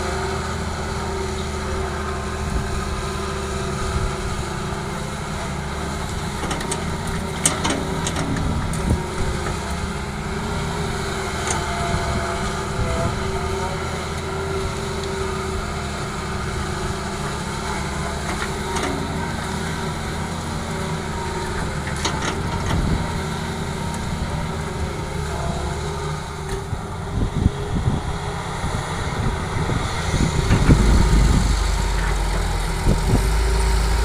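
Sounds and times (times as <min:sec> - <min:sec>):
heavy diesel engines running: 0:00.0 - 0:34.0.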